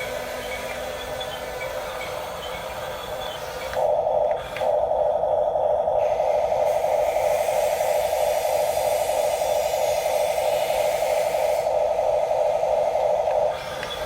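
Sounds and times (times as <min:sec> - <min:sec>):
electric motors whining: 0:00.0 - 0:08.3, 0:08.9 - 0:14.0
high hiss: 0:00.0 - 0:14.0.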